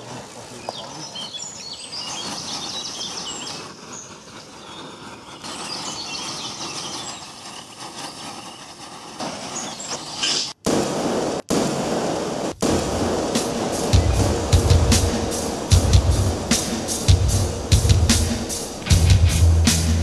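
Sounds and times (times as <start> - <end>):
small birds chirping: 0.0 - 10.6, 13.8 - 20.0
background rumble and hiss: 0.0 - 20.0.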